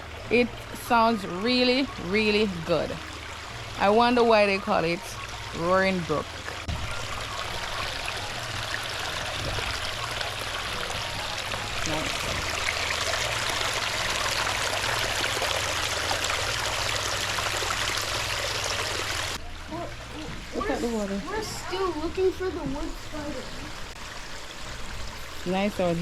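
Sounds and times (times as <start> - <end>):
brook flowing water: 0.0 - 26.0.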